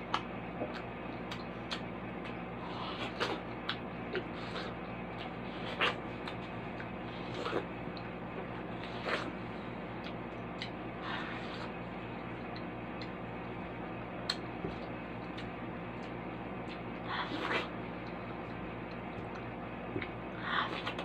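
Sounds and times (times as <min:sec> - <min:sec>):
person chewing watermelon: 0:00.0 - 0:13.6, 0:14.2 - 0:21.0
steady low hum: 0:00.0 - 0:21.0.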